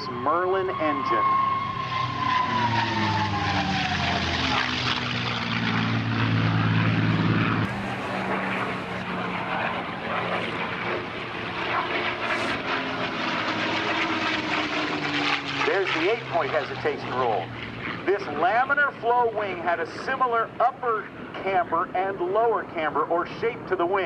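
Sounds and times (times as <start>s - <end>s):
propeller plane engine flying past: 0.0s - 24.0s.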